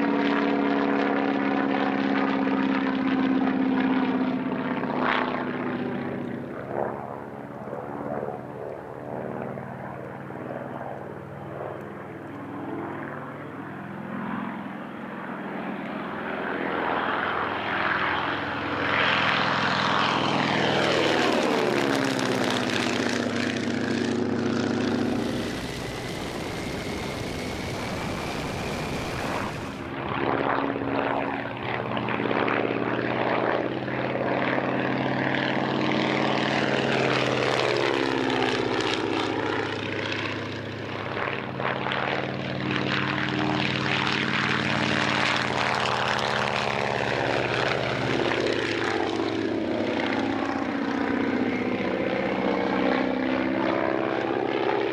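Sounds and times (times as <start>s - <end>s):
propeller plane engine in flight: 0.0s - 54.9s.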